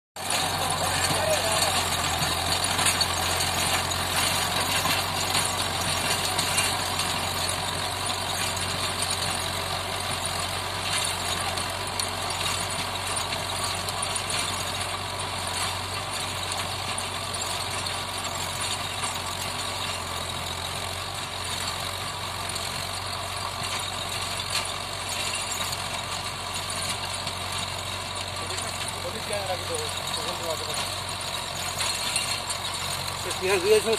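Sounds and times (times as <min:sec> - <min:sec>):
rotavator blades churning soil: 0:00.2 - 0:33.9
tractor engine running: 0:00.2 - 0:33.9.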